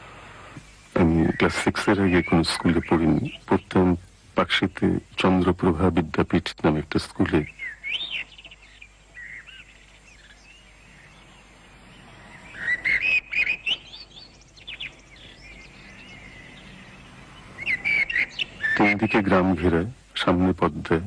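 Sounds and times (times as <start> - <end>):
faint low hum: 0.0 - 21.0
small birds chirping and twittering: 0.0 - 21.0.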